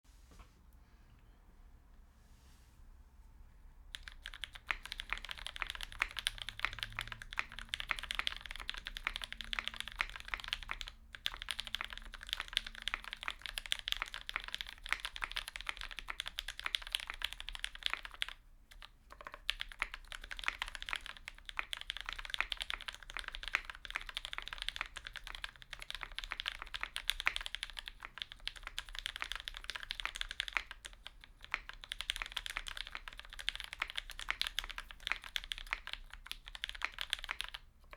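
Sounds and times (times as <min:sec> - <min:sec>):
typing on mechanical keyboard: 0:03.9 - 0:37.9.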